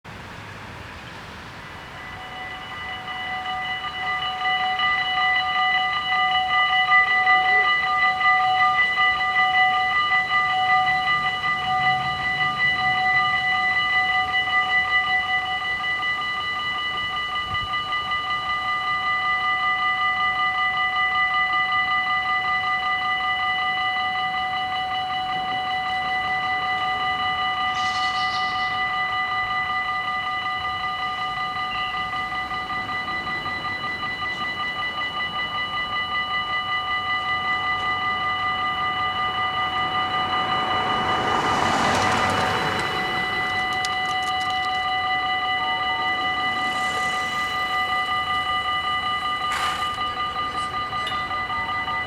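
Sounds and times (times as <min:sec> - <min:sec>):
electric train rushing: 0:00.1 - 0:52.0
level crossing bells ringing: 0:01.7 - 0:52.0.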